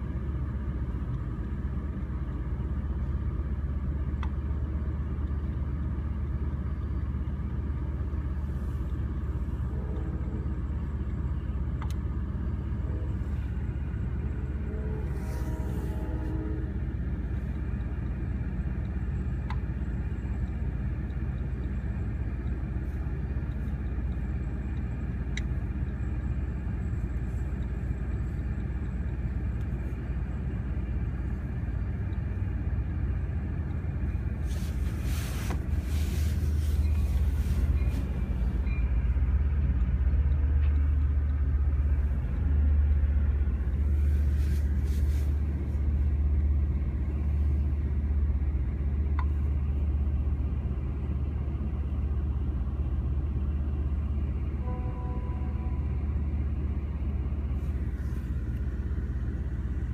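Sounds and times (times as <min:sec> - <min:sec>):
muffled diesel train rumble: 0:00.0 - 0:59.9.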